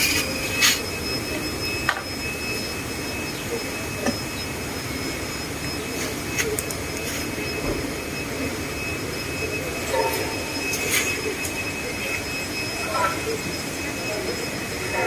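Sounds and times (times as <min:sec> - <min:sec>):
steady background roar: 0:00.0 - 0:15.0.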